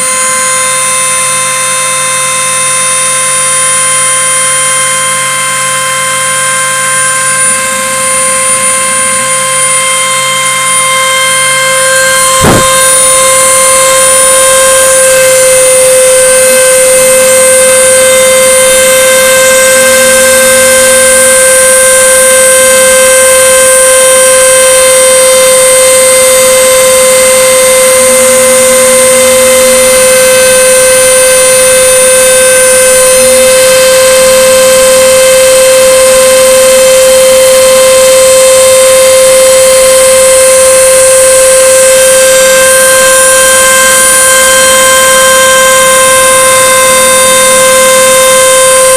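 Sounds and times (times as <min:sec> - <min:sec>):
faint lower tones: 0:00.0 - 0:48.9
router spindle high whine: 0:00.0 - 0:48.9.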